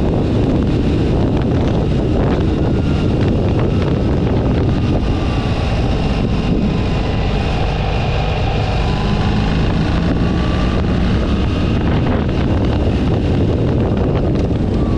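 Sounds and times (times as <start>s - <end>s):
motorcycle engine running: 0.0s - 14.9s
wind noise on microphone: 0.0s - 14.9s.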